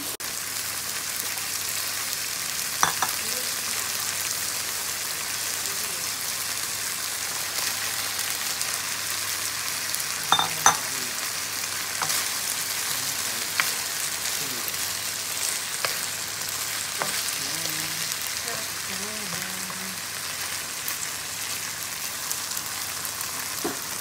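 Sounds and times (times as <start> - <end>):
food sizzling in a wok: 0.0 - 24.0.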